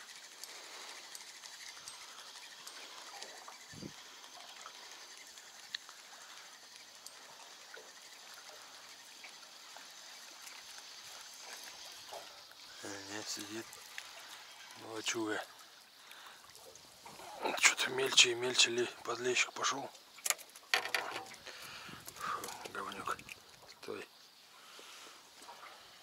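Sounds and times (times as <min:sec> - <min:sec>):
water splashing and lapping: 0:00.0 - 0:26.0.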